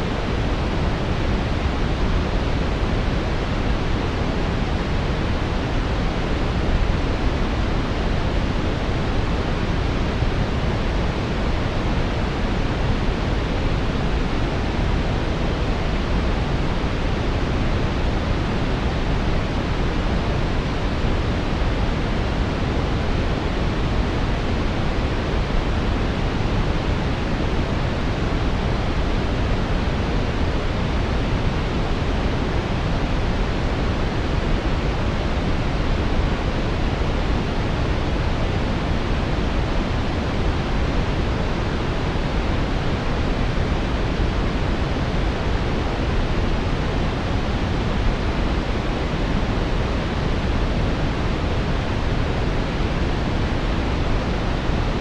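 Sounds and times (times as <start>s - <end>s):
deep brown noise hiss: 0.0s - 55.0s.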